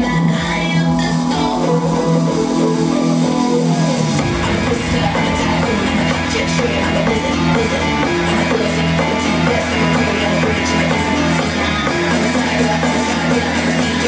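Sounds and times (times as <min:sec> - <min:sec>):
heavy bass: 0:00.0 - 0:14.0
loud music with guitar and drums: 0:00.0 - 0:14.0.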